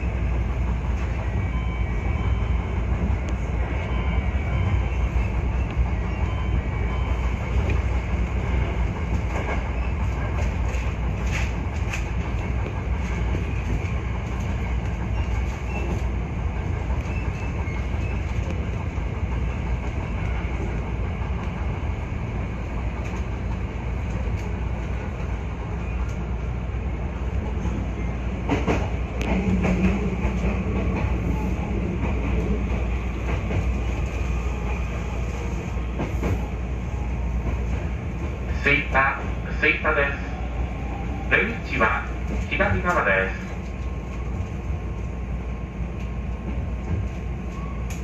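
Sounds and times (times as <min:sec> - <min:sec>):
train clickety-clack on rails: 0:00.0 - 0:48.0.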